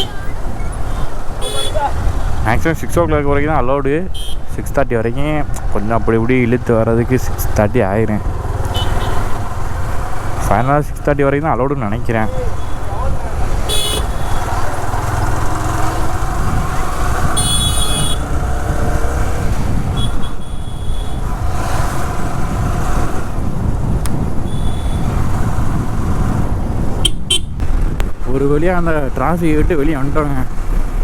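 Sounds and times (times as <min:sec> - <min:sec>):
traffic engines running: 0:00.0 - 0:31.0
wind rumble on microphone: 0:00.0 - 0:31.0.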